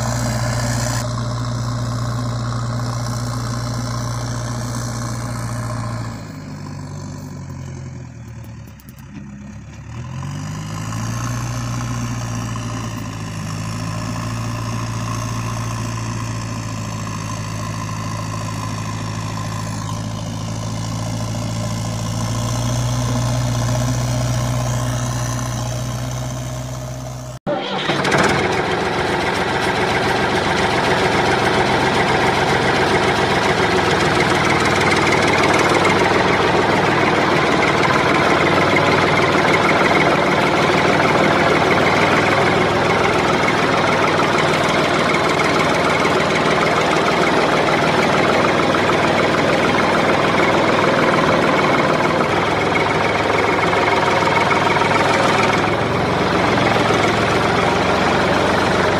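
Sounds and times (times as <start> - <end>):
loud engine running: 0.0 - 58.9
low engine hum: 0.0 - 58.9.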